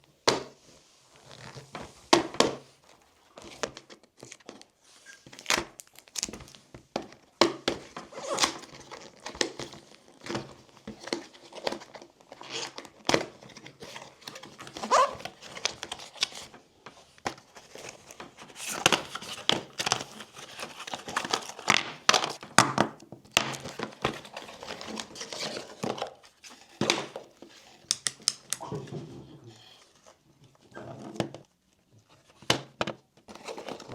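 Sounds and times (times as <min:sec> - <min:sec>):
plastic and cardboard crinkling: 0:00.2 - 0:33.9.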